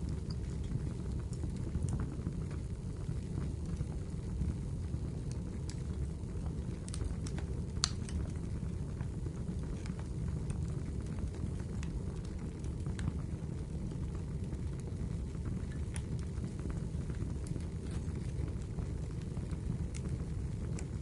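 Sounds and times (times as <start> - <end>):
fire crackling with pops: 0.0 - 21.0.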